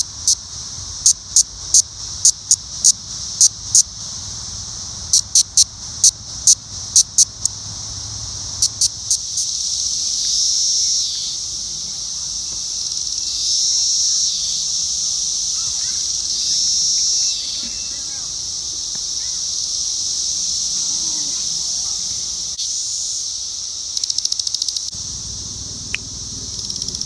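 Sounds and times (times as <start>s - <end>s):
cicada buzzy bursts: 0.0s - 27.0s
cicada calling buzz: 0.0s - 27.0s
steady high hiss: 0.0s - 27.0s.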